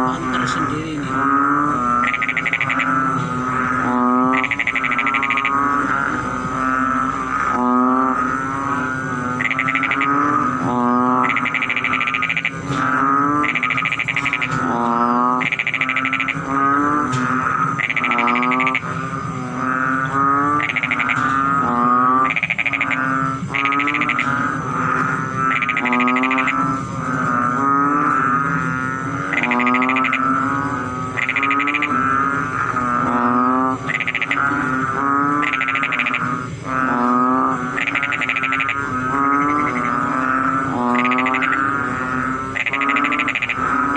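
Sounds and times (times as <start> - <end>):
frogs croaking in chorus: 0.0 - 43.9.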